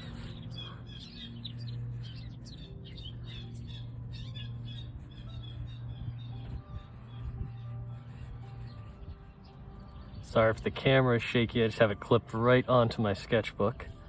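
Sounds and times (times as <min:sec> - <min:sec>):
birds chirping and singing: 0:00.0 - 0:14.0
steady low hum: 0:00.0 - 0:14.0.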